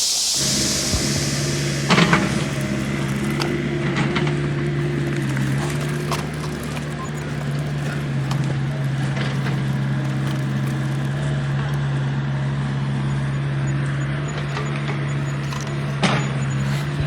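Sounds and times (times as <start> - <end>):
heavy engine running: 0.1 - 17.0.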